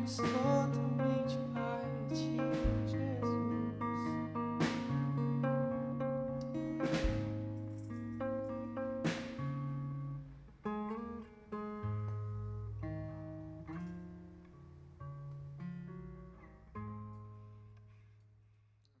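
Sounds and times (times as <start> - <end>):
acoustic guitar picking chords: 0.0 - 18.1.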